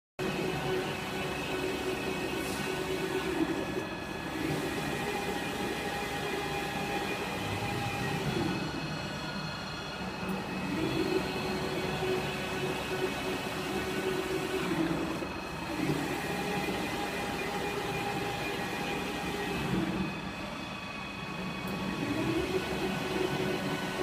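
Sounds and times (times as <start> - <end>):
machine whine and rumble: 0.2 - 24.0.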